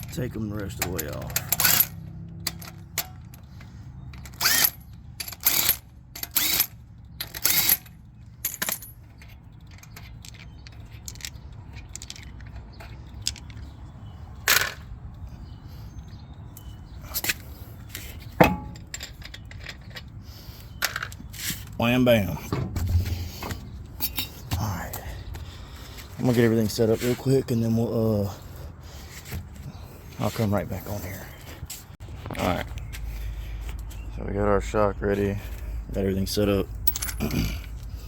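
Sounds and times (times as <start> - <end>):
metal lug nuts clinking: 0.0 - 30.6, 35.3 - 38.0.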